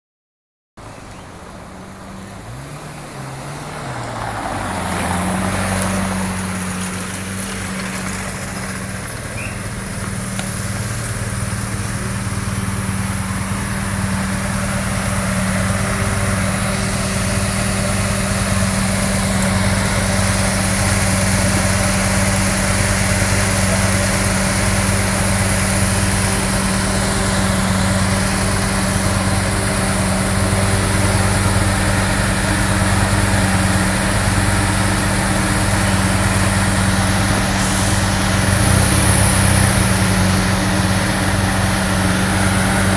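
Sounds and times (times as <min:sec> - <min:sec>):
car engine idling: 0:00.8 - 0:42.9.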